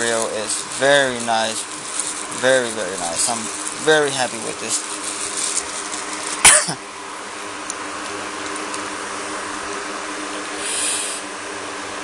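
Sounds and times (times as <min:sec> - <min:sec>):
fan humming and hissing: 0:00.0 - 0:12.0.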